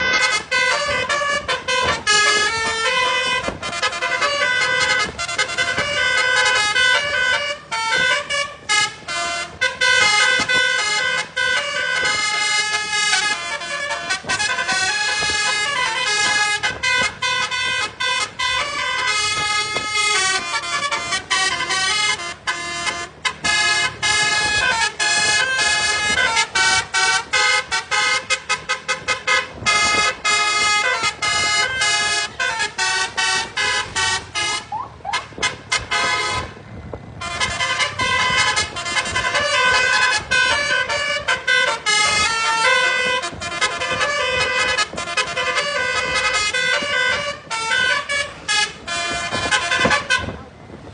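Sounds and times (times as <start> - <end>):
multi-tone bus horn melody: 0.0 - 50.9.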